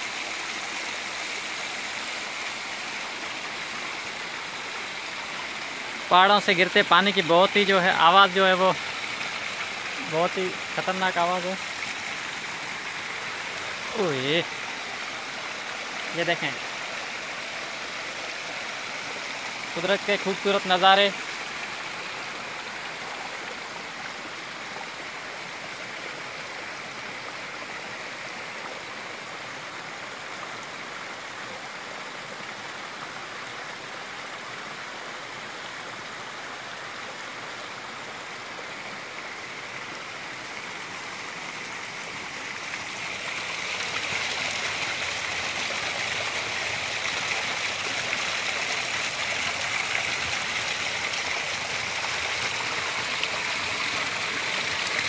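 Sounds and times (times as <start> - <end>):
water rushing over boulders: 0.0 - 55.0.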